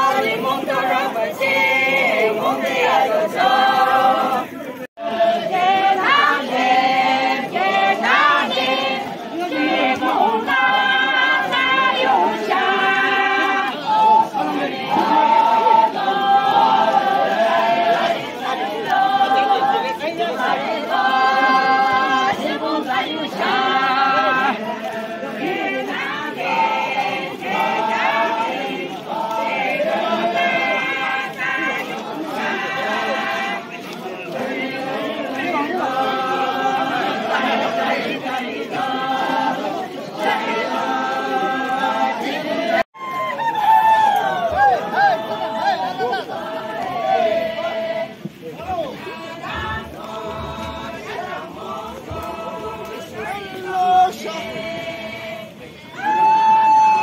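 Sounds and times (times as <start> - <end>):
group singing long held notes: 0.0 - 57.0.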